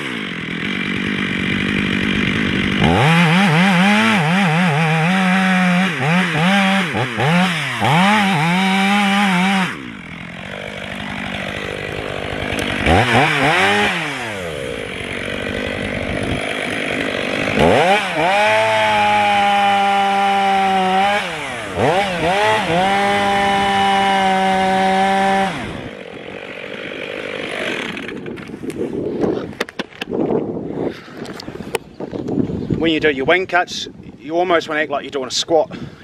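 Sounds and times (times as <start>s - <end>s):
chainsaw cutting tree: 0.0s - 30.6s.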